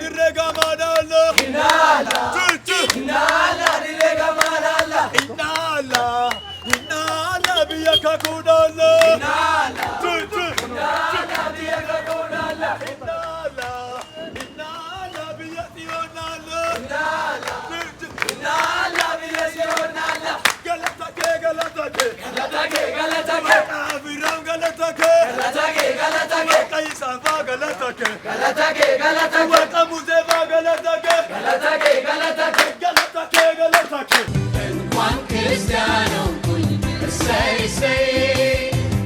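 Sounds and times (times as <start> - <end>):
congregation singing and chanting: 0.0 - 34.3
hand claps: 0.5 - 8.4, 9.0 - 34.3.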